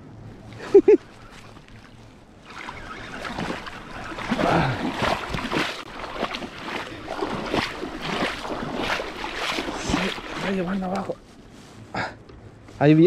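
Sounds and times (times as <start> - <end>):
river water splashing: 0.0 - 11.6.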